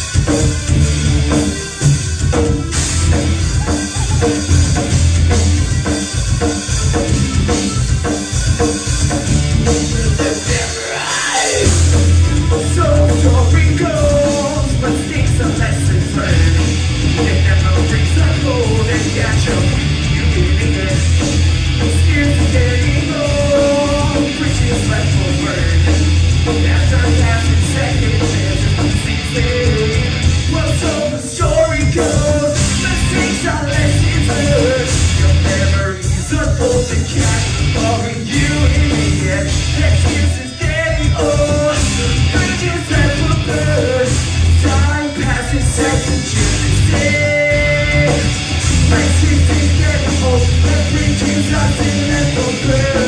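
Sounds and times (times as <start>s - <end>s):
bass guitar: 0.0s - 53.0s
drums: 0.0s - 53.0s
electric guitars: 0.0s - 53.0s
person singing: 9.6s - 21.2s, 21.8s - 53.0s.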